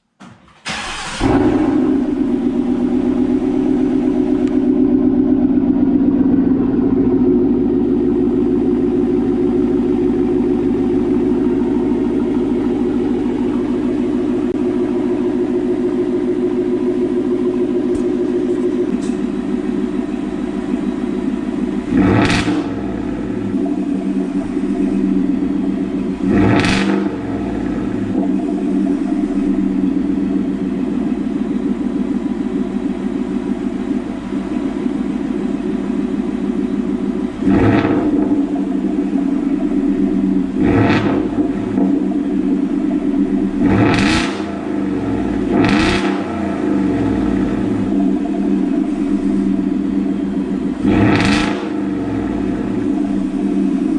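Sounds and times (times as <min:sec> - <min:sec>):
engine idling with throttle blips: 0:00.0 - 0:53.9.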